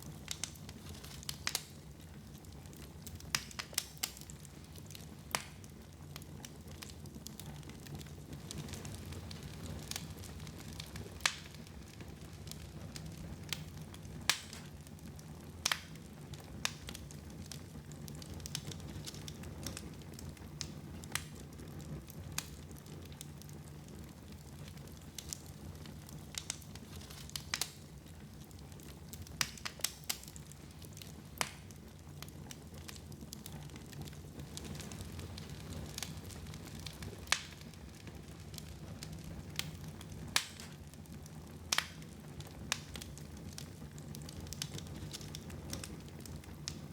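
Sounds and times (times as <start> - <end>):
fire crackling and popping: 0.0 - 46.9
fire rumbling: 0.0 - 46.9.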